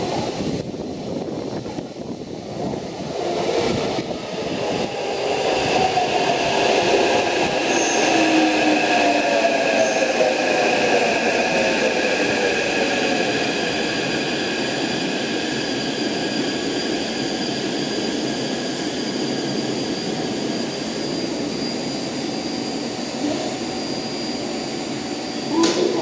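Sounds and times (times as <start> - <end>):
train rumble: 0.0 - 26.0
train traction motor whine: 0.0 - 26.0.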